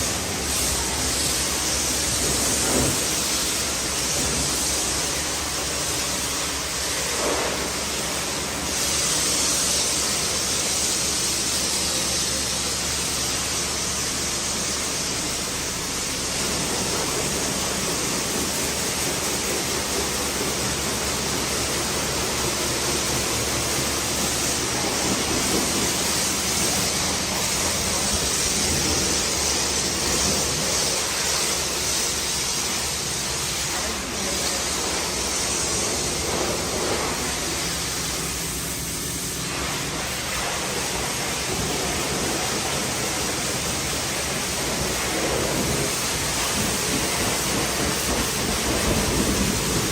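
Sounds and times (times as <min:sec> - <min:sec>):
pressure washer spray hiss: 0:00.0 - 0:49.9.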